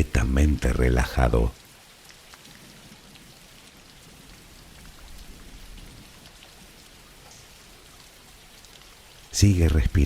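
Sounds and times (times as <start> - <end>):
raindrop ticks: 0.0 - 10.0
soft rain hiss: 0.0 - 10.0.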